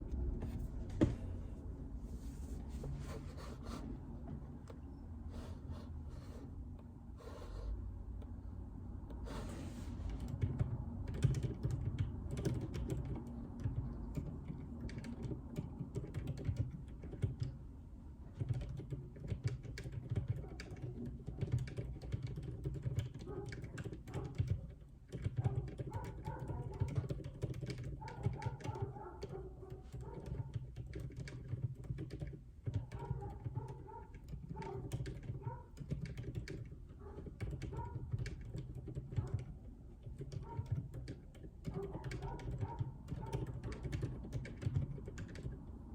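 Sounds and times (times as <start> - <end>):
typing on mechanical keyboard: 8.2 - 45.9.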